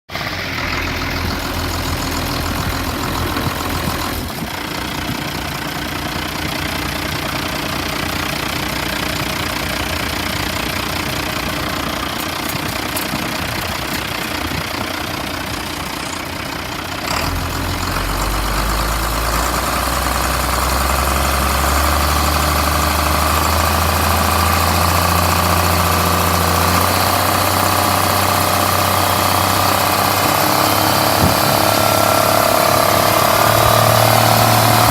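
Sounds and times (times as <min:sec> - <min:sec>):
diesel engine idling with knock: 0:00.1 - 0:34.9.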